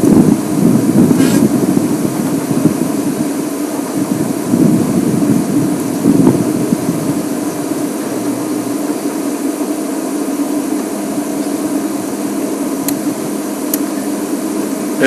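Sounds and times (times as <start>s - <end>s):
vehicle low mechanical drone: 0.0s - 15.0s.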